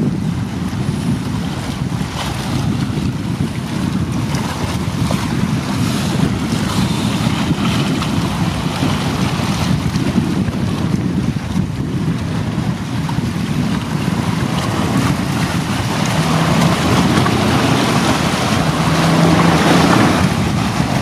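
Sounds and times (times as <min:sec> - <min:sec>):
choppy sea water: 0:00.0 - 0:21.0
wind buffeting microphone: 0:00.0 - 0:21.0.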